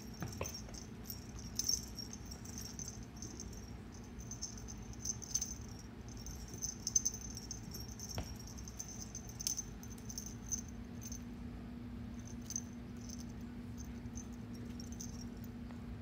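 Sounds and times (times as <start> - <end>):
toy jingling and rattling: 0.0 - 11.2, 12.2 - 15.5.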